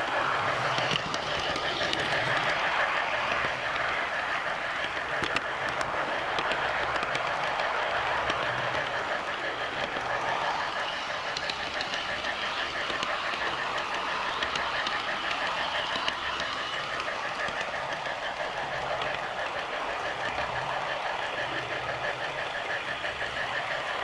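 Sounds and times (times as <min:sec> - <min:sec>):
miniature train running on track: 0:00.0 - 0:24.0.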